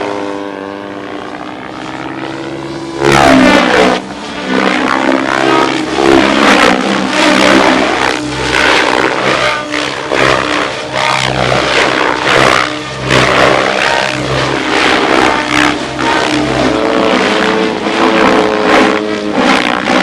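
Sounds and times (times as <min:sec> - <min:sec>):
model helicopter rotor hum: 0:00.0 - 0:20.0.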